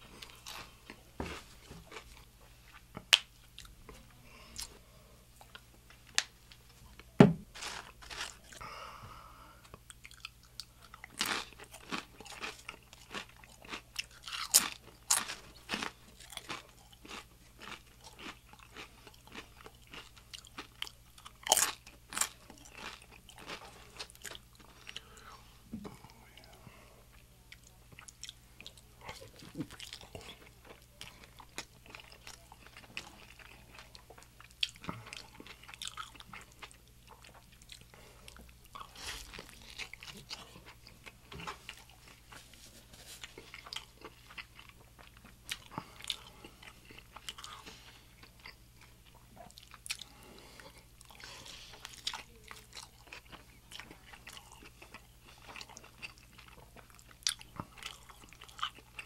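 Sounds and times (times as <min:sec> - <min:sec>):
crunching and chewing tacos: 0:00.0 - 0:09.0, 0:09.6 - 0:59.0.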